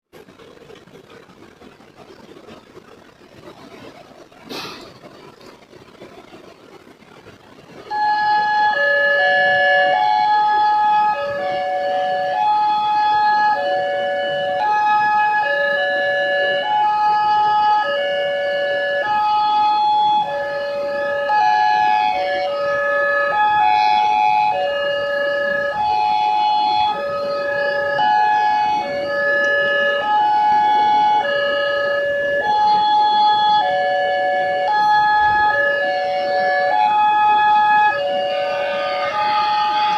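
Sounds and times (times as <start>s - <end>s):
faint background noise: 0.1s - 39.9s
level crossing electronic siren: 7.9s - 39.9s.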